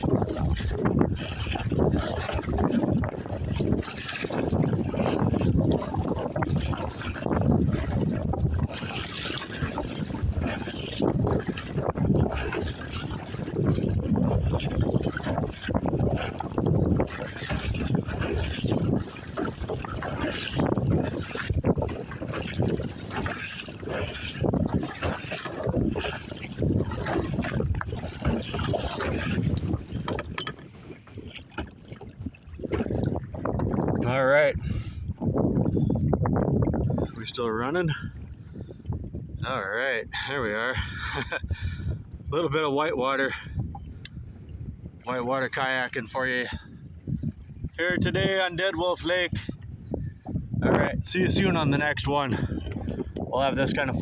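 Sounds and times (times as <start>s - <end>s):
water splashing around kayak: 0.0s - 54.0s
wind buffeting microphone: 0.0s - 54.0s.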